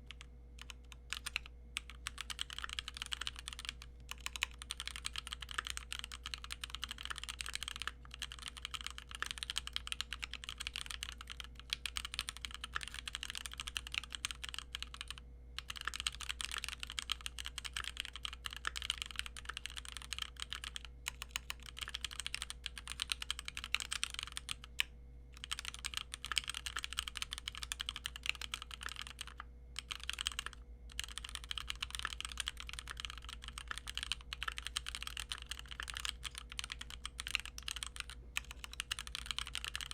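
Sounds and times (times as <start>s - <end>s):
mechanical keyboard typing: 0.0s - 24.8s, 25.4s - 39.9s.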